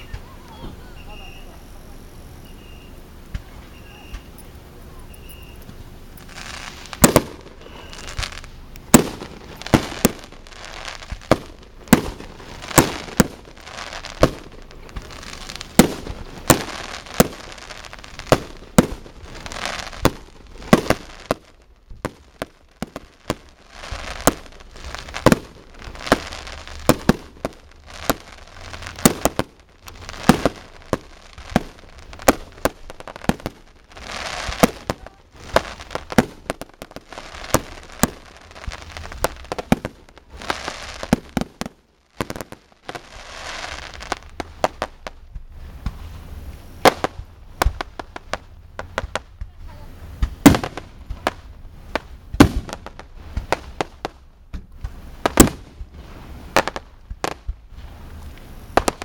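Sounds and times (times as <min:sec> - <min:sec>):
fireworks bursting with sharp bangs: 0:00.0 - 0:59.0
fireworks crackling: 0:00.0 - 0:59.0.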